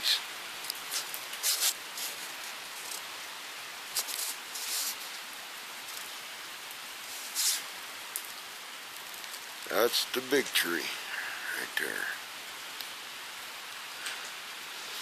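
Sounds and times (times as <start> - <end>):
rain falling in wind: 0.0 - 15.0.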